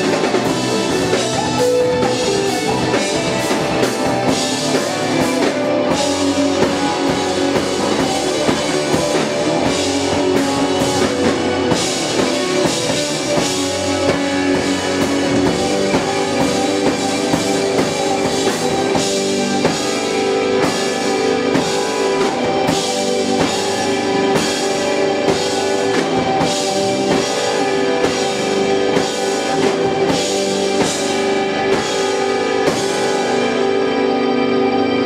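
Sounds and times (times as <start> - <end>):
drum kit hits: 0.0 - 33.8
held keyboard chord: 0.0 - 35.0
live rock band playing: 0.0 - 35.0.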